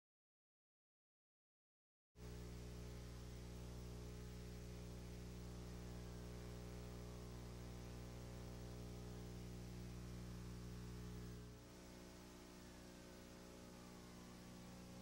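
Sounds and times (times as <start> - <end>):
constant hiss: 2.2 - 15.0
low electrical hum: 2.2 - 15.0.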